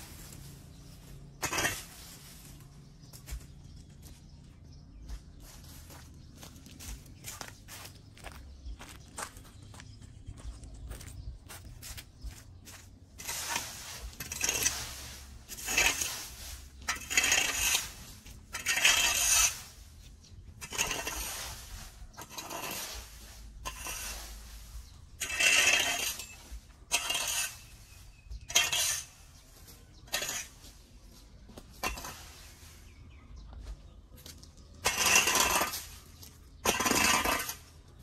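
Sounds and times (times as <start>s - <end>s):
rake scraping dry leaves: 0.0s - 3.5s, 5.4s - 8.4s, 11.8s - 33.2s, 34.5s - 38.0s.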